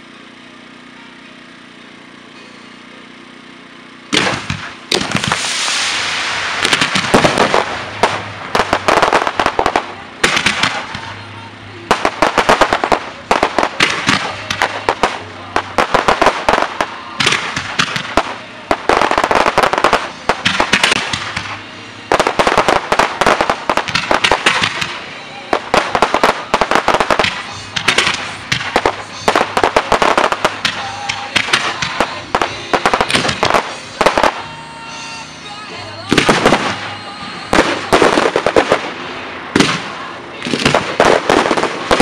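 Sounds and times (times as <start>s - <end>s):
fireworks bangs and crackling: 4.1s - 42.0s.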